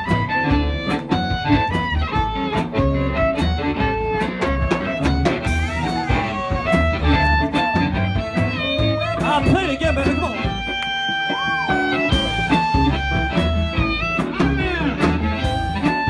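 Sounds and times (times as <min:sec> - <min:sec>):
blues band playing: 0:00.0 - 0:16.0
harmonica lead line: 0:00.0 - 0:16.0.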